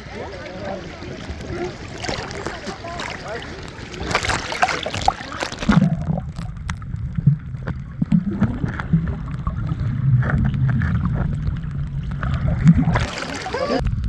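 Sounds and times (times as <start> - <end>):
boat engine humming: 0.0 - 13.8.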